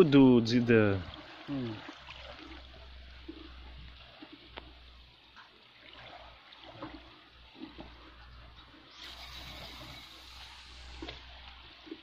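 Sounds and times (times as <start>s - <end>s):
water lapping against rocks: 0.0s - 12.0s.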